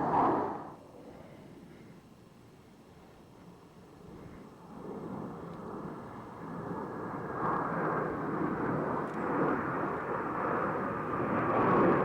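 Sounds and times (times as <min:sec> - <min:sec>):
jet engine noise: 0:00.0 - 0:02.0, 0:02.6 - 0:12.0
faint turbine whine: 0:00.0 - 0:12.0.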